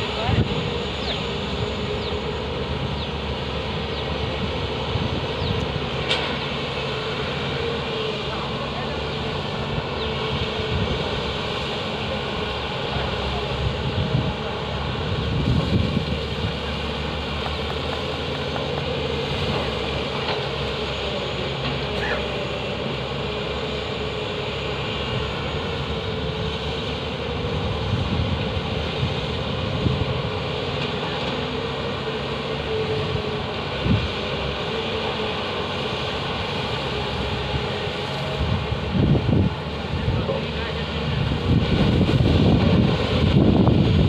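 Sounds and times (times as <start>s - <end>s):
heavy diesel engines droning: 0.0s - 44.0s.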